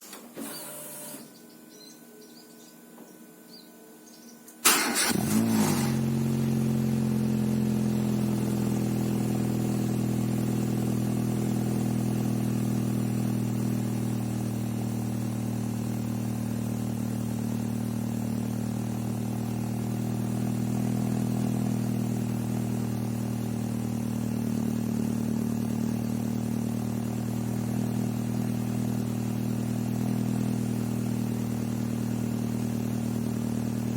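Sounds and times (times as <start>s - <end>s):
car engine starting and idling: 4.6s - 33.9s.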